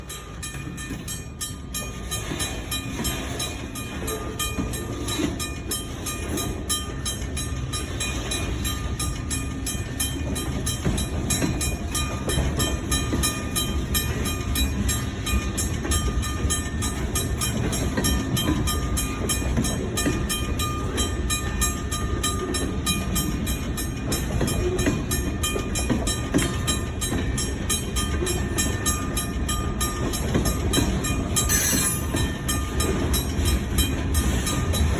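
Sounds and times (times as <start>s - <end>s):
train rolling rumble: 0.0s - 34.9s.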